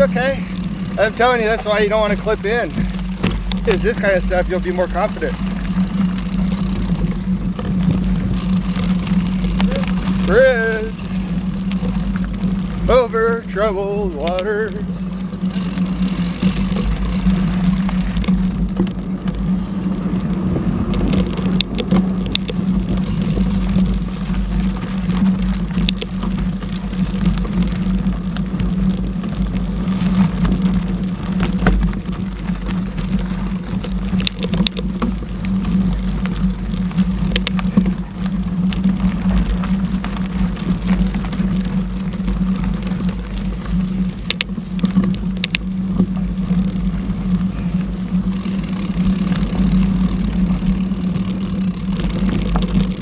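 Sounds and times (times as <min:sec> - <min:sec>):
bike rattles and clicks: 0:00.0 - 0:53.0
tyres rumbling on trail: 0:00.0 - 0:53.0
wind on microphone: 0:00.0 - 0:53.0.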